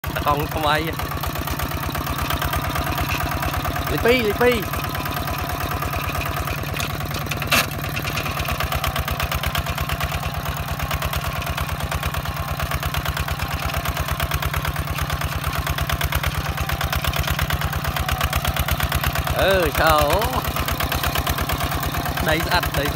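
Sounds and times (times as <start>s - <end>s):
diesel engine chugging: 0.0s - 22.9s.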